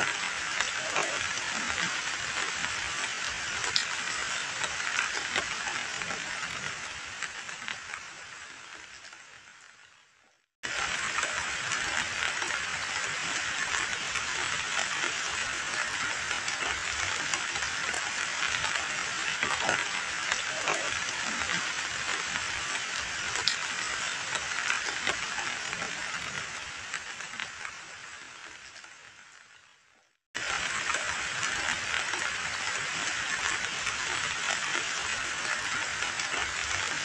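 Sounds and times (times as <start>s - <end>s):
heavy rain on water: 0.0s - 9.8s, 10.6s - 29.6s, 30.4s - 37.0s.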